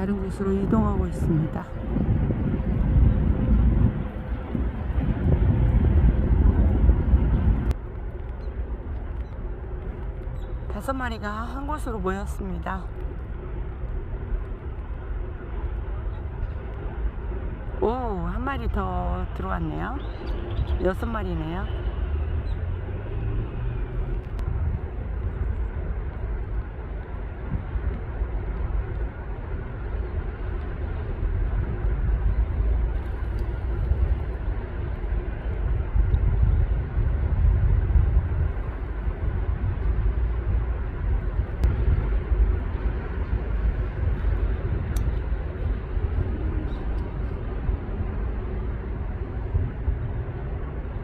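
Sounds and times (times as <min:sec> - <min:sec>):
low outdoor rumble: 0:00.0 - 0:51.0.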